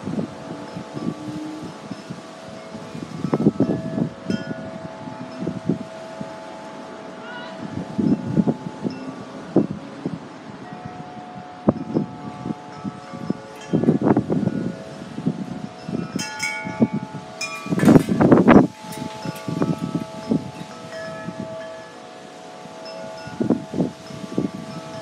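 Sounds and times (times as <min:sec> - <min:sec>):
wind chimes ringing: 0:00.0 - 0:25.0
wind rumbling on microphone: 0:00.0 - 0:25.0.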